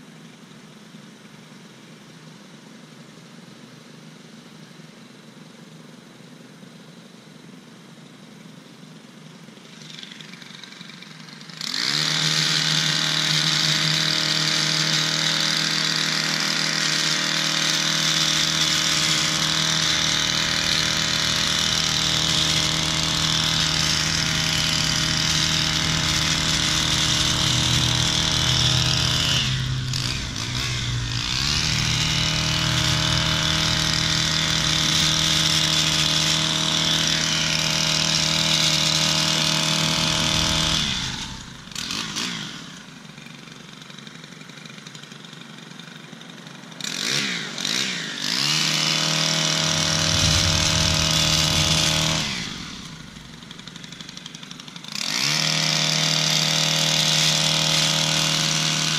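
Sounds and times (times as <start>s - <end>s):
two-stroke engine revving: 9.7s - 58.9s.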